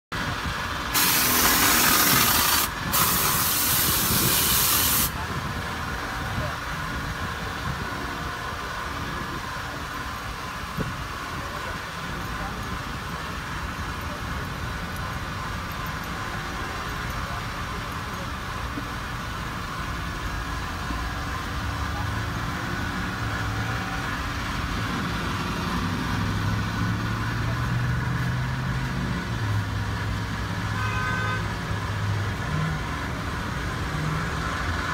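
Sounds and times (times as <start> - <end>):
traffic hiss: 0.2 - 34.9.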